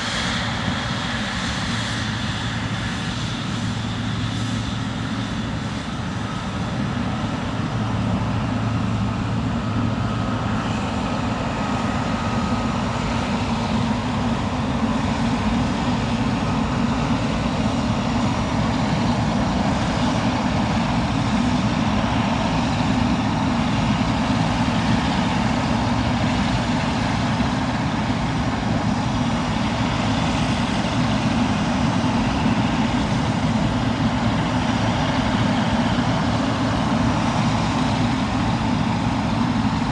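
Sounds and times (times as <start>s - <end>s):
jet engine noise: 0.0s - 39.9s.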